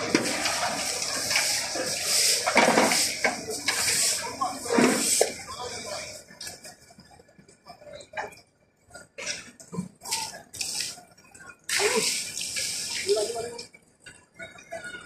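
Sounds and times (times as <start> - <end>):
scattered voices: 0.0 - 15.0.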